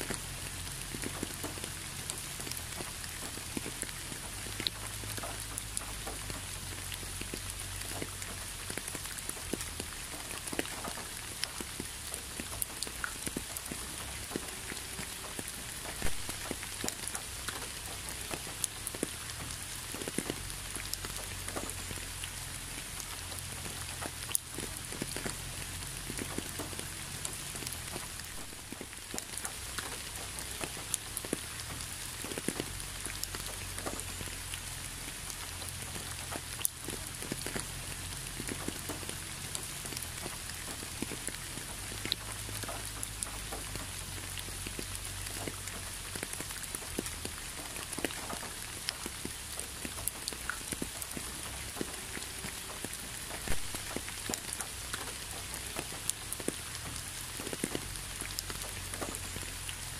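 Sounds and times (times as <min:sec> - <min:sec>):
steady rain hiss: 0:00.0 - 0:59.9
drops ticking on a surface: 0:00.6 - 0:59.8.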